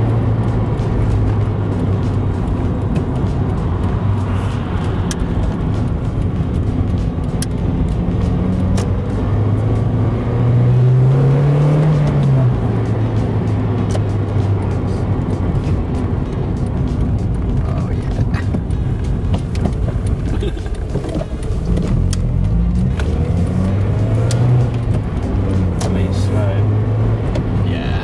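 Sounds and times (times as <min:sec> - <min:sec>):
car engine hum: 0:00.0 - 0:28.0
road noise: 0:00.0 - 0:28.0.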